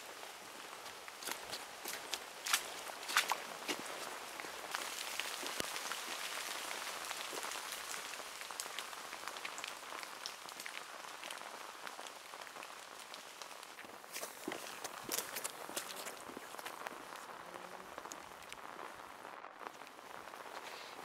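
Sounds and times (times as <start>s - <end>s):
light rain pattering on leaves: 0.0s - 21.0s.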